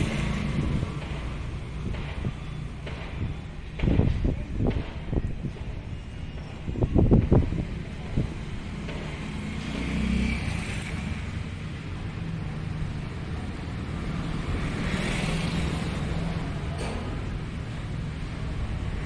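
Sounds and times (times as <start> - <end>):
road traffic rumble: 0.0 - 19.0
vehicles passing with hiss: 0.0 - 19.0
wind: 0.0 - 19.0.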